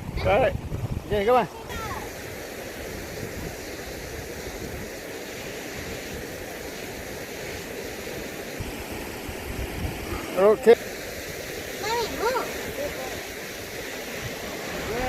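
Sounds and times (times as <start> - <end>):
river water flowing: 0.0 - 15.0
wind buffeting microphone: 0.0 - 15.0.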